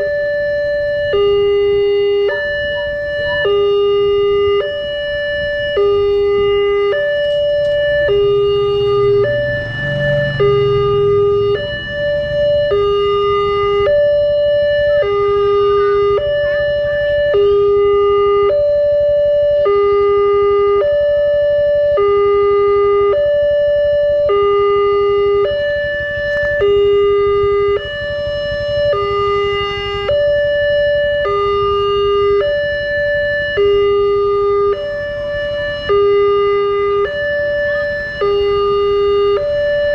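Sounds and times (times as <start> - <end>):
electronic two-tone warning bell: 0.0 - 39.9
motorcycle engine rumbling: 0.0 - 39.9.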